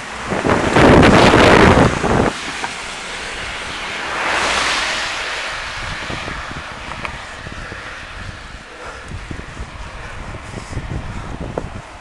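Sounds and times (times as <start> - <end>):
car overtaking: 0.0 - 10.4
wind buffeting microphone: 0.0 - 12.0.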